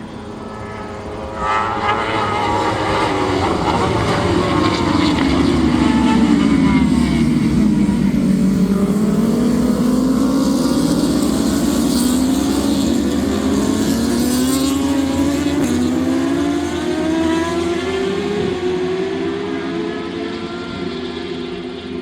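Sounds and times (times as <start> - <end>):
racing motorcycle engines at high revs: 0.0 - 22.0.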